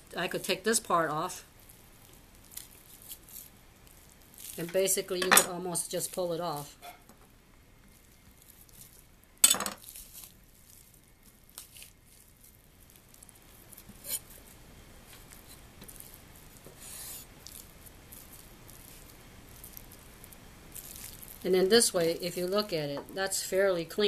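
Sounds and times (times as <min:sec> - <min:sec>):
wet peeling of raw meat: 0:01.5 - 0:06.8, 0:07.8 - 0:09.2, 0:09.8 - 0:23.3.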